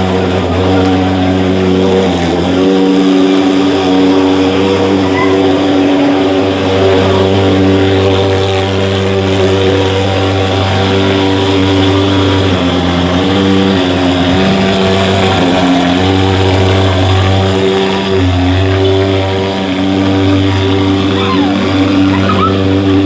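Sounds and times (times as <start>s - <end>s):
fogging machine engine drone: 0.0s - 23.0s.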